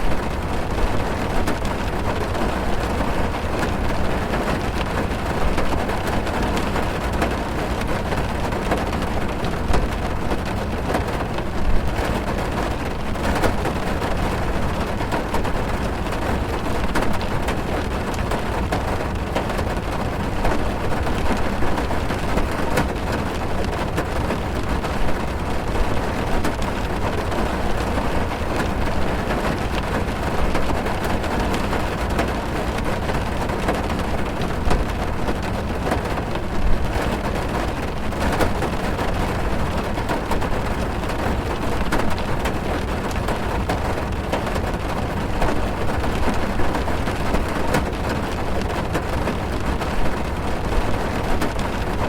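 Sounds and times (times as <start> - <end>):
heavy rain on car roof: 0.0 - 52.0.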